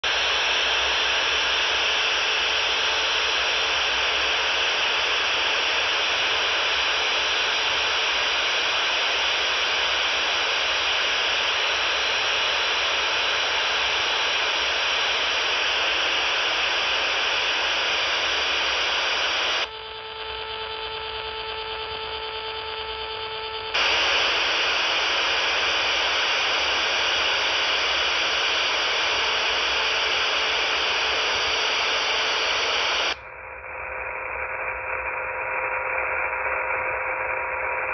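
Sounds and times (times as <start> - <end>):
quiet radio band noise: 0.0 - 21.3, 23.7 - 33.2
faint steady tones: 0.0 - 33.5
harsh buzzing radar hiss: 0.0 - 36.2.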